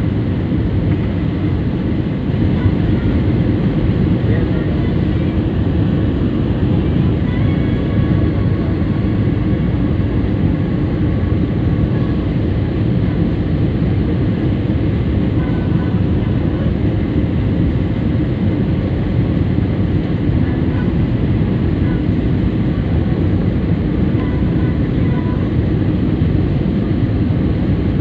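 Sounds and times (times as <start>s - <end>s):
airliner cabin engine noise: 0.0s - 28.0s.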